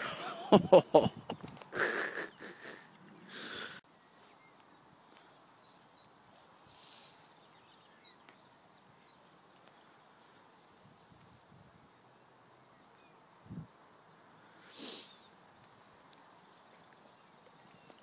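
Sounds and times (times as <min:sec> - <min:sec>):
rustling hiss: 0:00.0 - 0:16.7.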